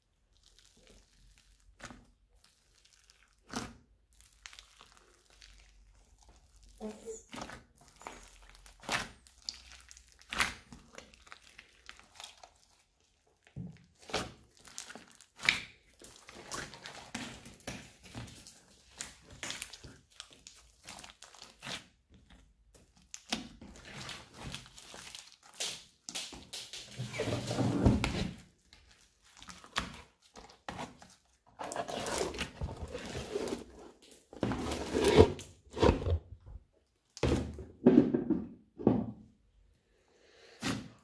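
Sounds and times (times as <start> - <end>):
slime squelching and crackling: 0.0 - 37.3.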